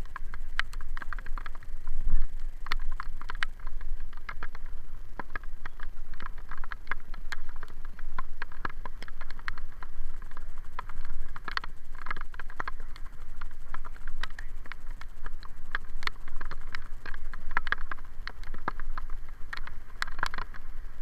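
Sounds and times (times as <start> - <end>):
raindrops ticking on camera: 0.0 - 21.0
wind and road rumble: 0.0 - 21.0.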